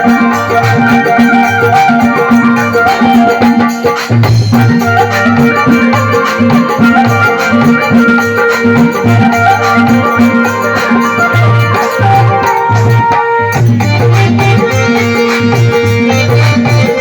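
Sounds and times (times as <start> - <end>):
keyboard melody: 0.0 - 17.0
steady drum beat: 0.0 - 17.0.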